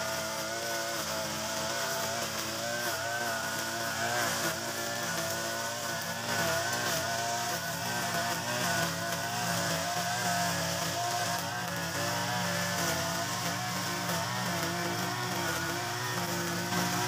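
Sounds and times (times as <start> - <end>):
brush cutter engine running: 0.0 - 17.0
trimmer line cutting grass: 0.0 - 17.0.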